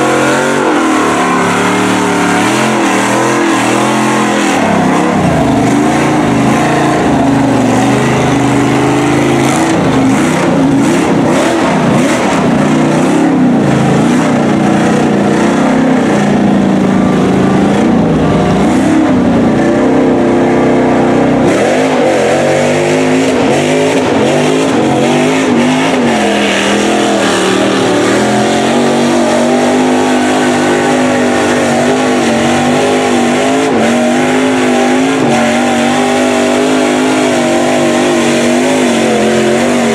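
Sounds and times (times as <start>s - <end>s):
tires churning through mud: 0.0s - 39.9s
truck engine revving: 0.0s - 39.9s.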